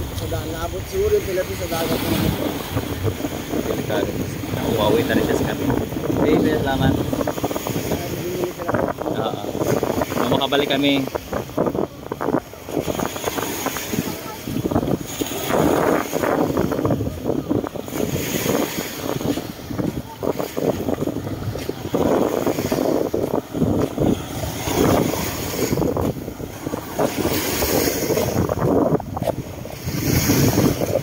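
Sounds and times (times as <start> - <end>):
waves splashing: 0.0 - 31.0
wind buffeting microphone: 0.0 - 31.0.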